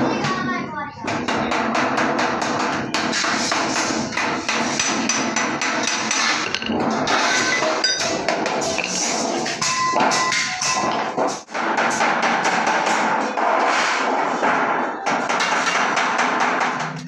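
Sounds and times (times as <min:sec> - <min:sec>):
hammering on sheet metal: 0:01.0 - 0:17.0.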